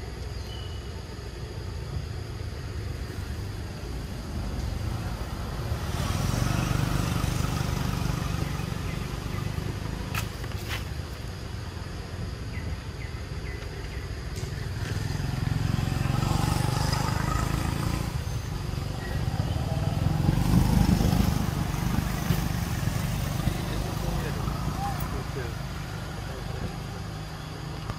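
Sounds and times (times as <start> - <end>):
vehicles passing by: 0.0 - 27.9.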